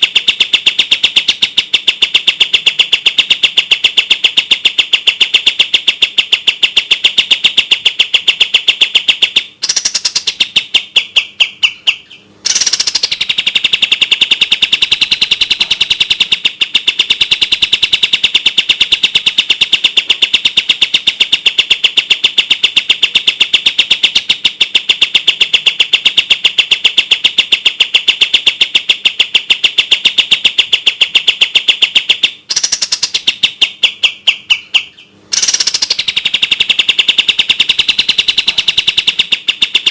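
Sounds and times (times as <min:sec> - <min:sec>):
bulbul singing rapid notes: 0:00.0 - 0:39.9.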